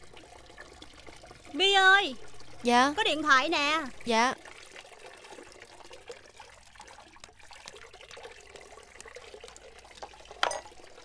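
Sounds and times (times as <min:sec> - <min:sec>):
fountain water trickling: 0:00.0 - 0:11.0.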